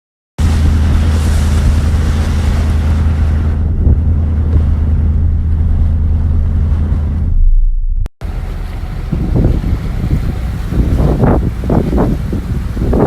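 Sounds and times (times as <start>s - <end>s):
water rushing beneath boat: 0.4s - 13.0s
wind rumble on microphone: 0.4s - 13.0s.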